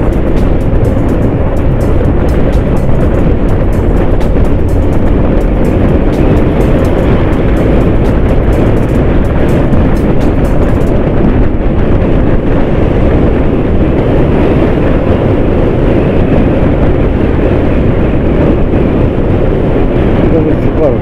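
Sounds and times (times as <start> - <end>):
motorcycle engine hum: 0.0 - 21.0
wind rushing on microphone: 0.0 - 21.0.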